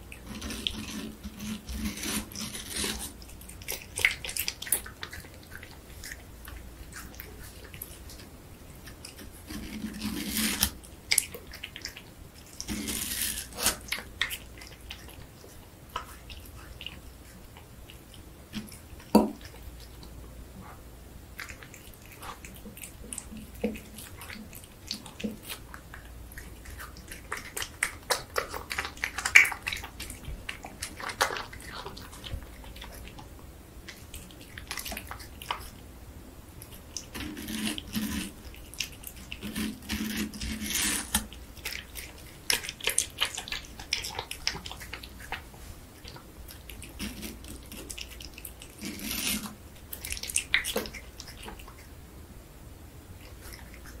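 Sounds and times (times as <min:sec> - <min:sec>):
cat chewing watermelon: 0:00.0 - 0:52.0, 0:53.1 - 0:54.0.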